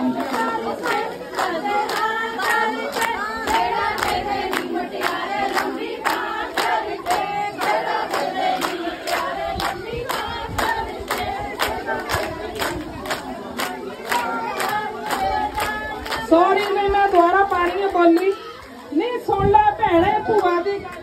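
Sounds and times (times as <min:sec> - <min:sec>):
group of women singing: 0:00.0 - 0:18.1
rhythmic hand-clapping: 0:00.0 - 0:18.4.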